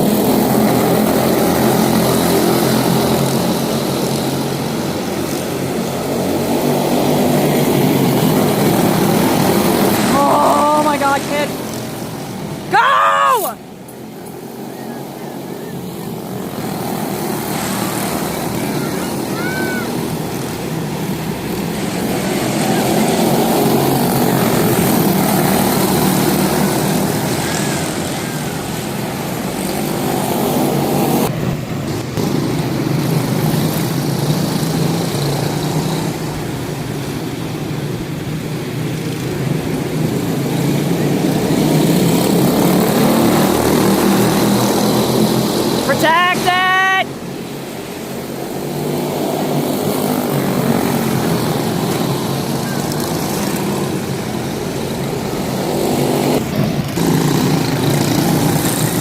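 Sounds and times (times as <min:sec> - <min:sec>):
race car engines buzzing: 0:00.0 - 0:12.8, 0:13.4 - 0:59.0.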